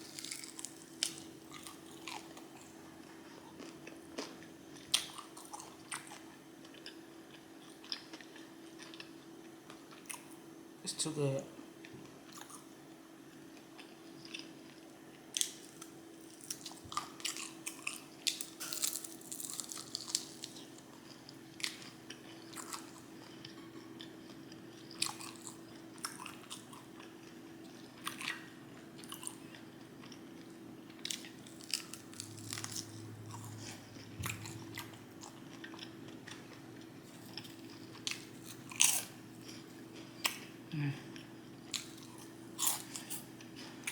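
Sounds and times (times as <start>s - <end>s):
chewing and biting food: 0.0s - 7.0s, 7.6s - 10.3s, 15.4s - 40.5s, 41.1s - 43.9s.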